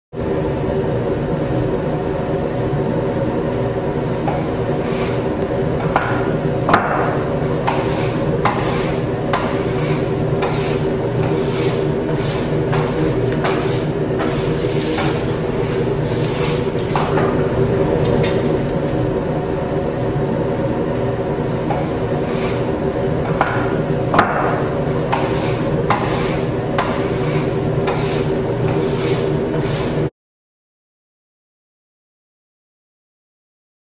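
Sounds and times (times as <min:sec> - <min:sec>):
bakery equipment hum: 0:00.2 - 0:30.1.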